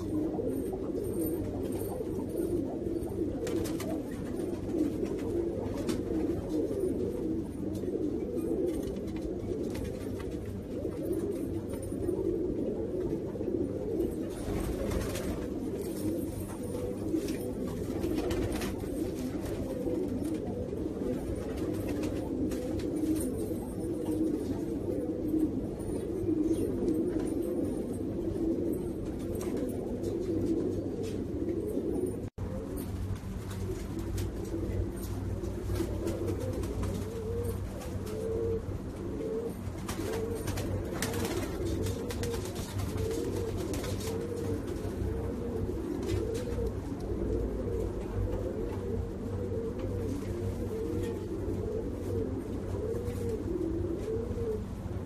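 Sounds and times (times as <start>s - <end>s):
pigeon cooing: 0.0s - 55.0s
steady low hum: 0.0s - 55.0s.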